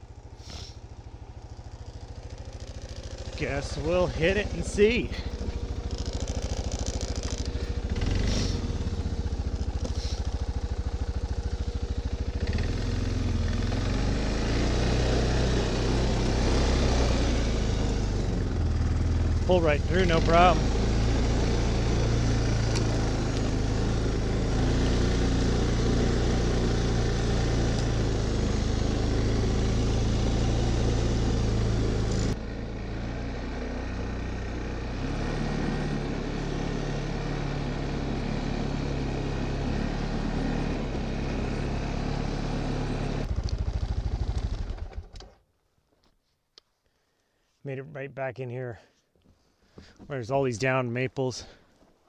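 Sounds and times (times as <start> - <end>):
quad bike engine running: 0.0 - 45.4.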